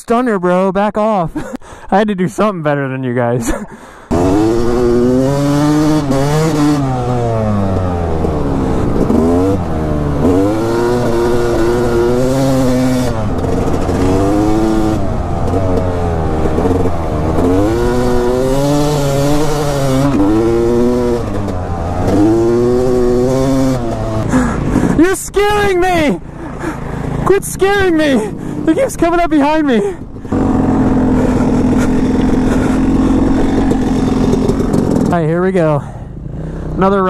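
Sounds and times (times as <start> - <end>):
dirt bike engine revving: 3.5 - 37.0.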